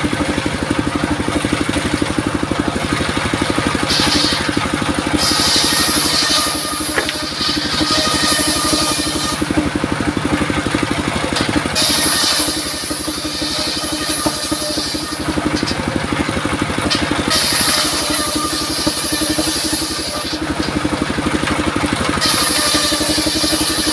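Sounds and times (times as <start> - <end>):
diesel engine running: 0.0 - 23.9
saw blade cutting wood: 0.0 - 23.9.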